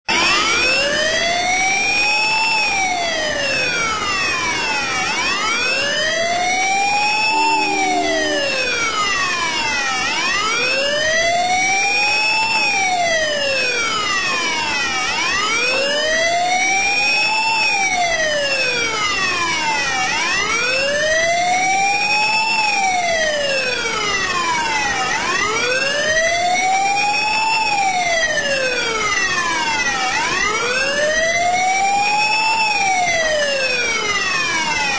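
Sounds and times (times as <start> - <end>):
emergency vehicle siren wailing: 0.1 - 34.9.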